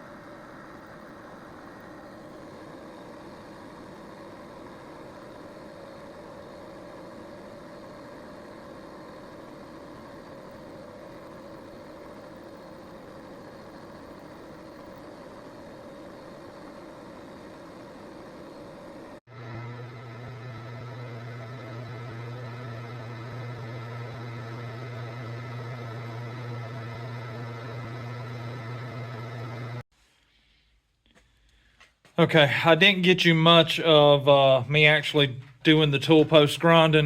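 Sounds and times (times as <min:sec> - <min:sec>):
metal lathe motor hum: 0:00.0 - 0:29.8.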